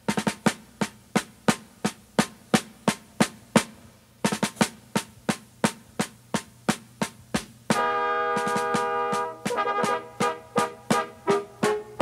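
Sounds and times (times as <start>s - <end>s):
snare drum marching cadence: 0.0s - 12.0s.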